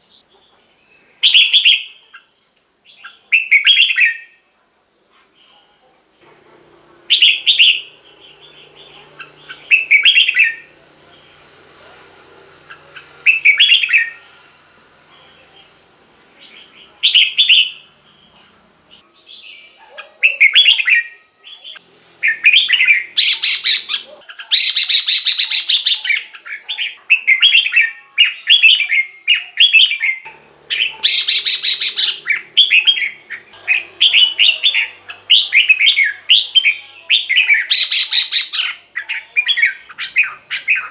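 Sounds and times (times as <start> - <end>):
bulbul singing warbled phrases: 0.0 - 4.4, 7.0 - 40.9.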